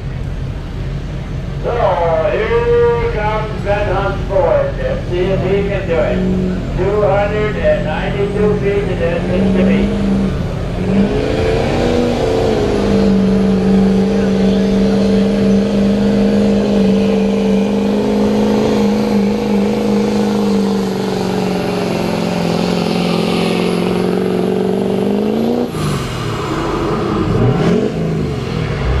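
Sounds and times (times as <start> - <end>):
diesel pickup engine at full throttle: 0.0 - 29.0.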